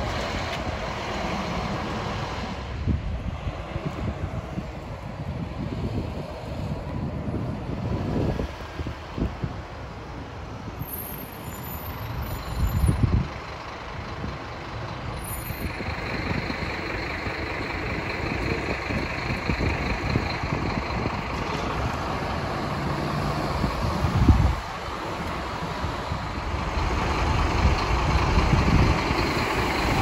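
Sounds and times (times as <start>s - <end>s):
wind gusts on microphone: 0.0s - 10.9s, 11.8s - 30.0s
bus engine running: 0.0s - 30.0s.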